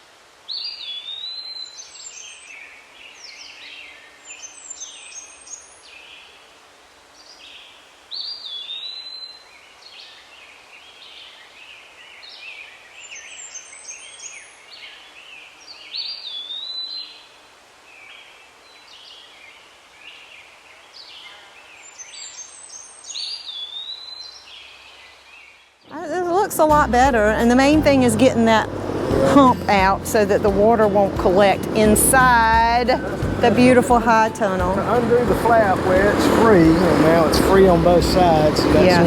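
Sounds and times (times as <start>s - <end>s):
songbird singing: 0.0s - 39.0s
bird chirping: 0.5s - 6.4s, 7.2s - 39.0s.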